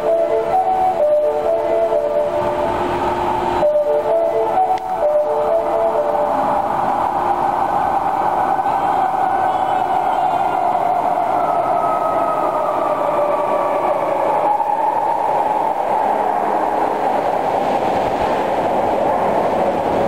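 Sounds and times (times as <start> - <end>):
subway train braking: 0.0 - 20.0.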